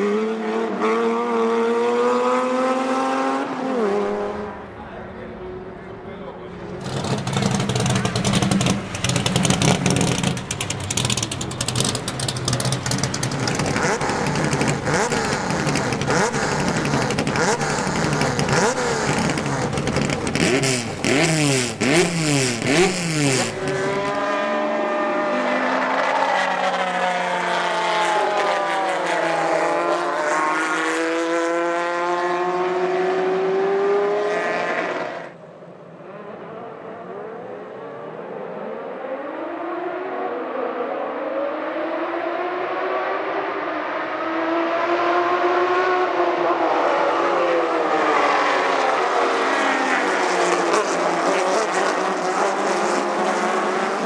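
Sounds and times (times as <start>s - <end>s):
race car engine revving: 0.0s - 35.4s, 36.0s - 54.0s
race cars accelerating: 0.0s - 54.0s.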